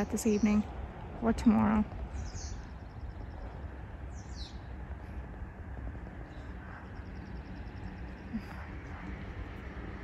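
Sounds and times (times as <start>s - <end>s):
bird chirp: 0.0s - 10.0s
low outdoor rumble: 0.0s - 10.0s.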